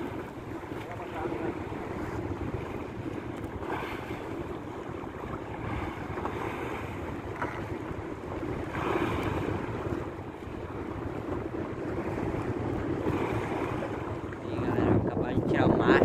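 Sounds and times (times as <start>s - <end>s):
water washing against boat hull: 0.0s - 16.0s
wave splashes: 0.0s - 16.0s
wind buffeting microphone: 0.0s - 16.0s.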